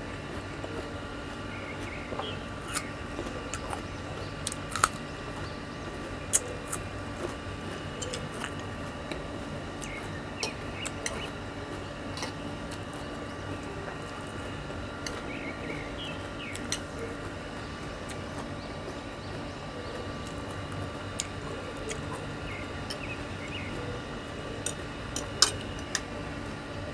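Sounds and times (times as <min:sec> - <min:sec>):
person chewing crunchy food: 0:00.2 - 0:23.1.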